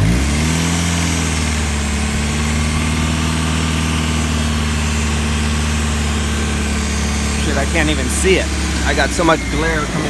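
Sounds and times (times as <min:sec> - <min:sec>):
car engine at raised idle: 0:00.0 - 0:10.0.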